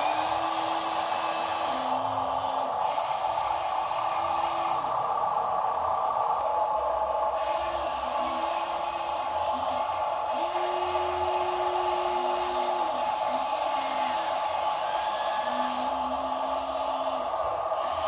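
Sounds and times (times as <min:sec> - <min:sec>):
toy truck motor whirring: 0:00.0 - 0:05.2, 0:06.4 - 0:18.0.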